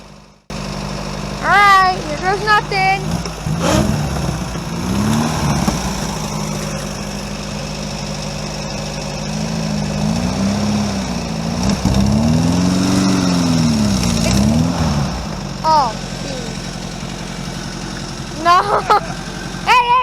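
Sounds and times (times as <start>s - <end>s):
vehicle engine revving under load: 0.0s - 20.0s.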